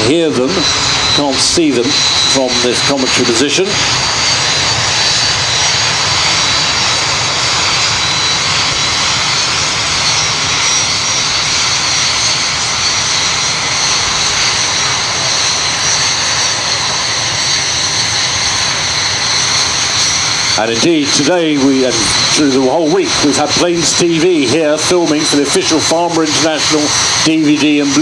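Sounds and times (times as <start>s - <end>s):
jet engine with high whine: 0.0s - 28.0s.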